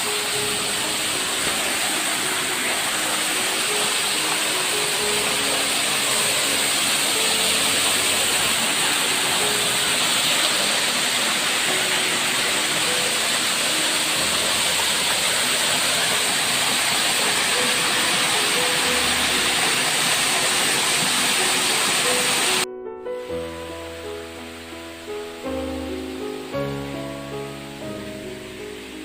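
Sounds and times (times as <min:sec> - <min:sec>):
waterfall rushing: 0:00.0 - 0:22.6, 0:23.3 - 0:29.0.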